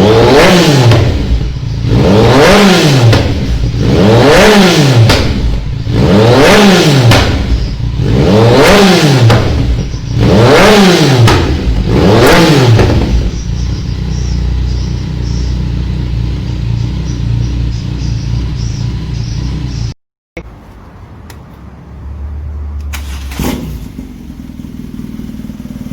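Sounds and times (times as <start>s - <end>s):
motorcycle engine revving and idling: 0.0s - 20.0s, 22.8s - 25.9s.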